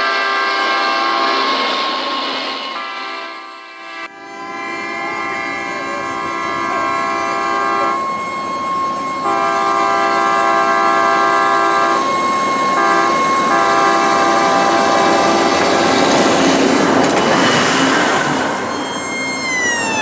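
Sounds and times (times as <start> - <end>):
air horn blasts: 0.0 - 2.1, 2.7 - 20.0
rail vehicle running on rails: 0.0 - 20.0.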